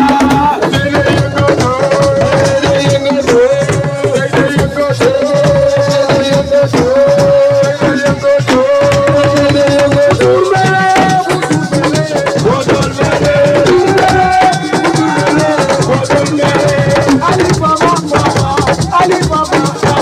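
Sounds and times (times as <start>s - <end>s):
hand drums: 0.0s - 20.0s.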